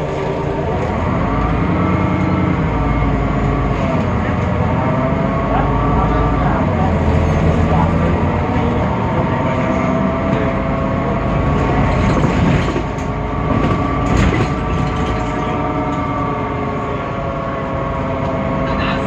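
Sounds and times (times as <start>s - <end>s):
bus engine rumbling with whine: 0.0s - 19.0s.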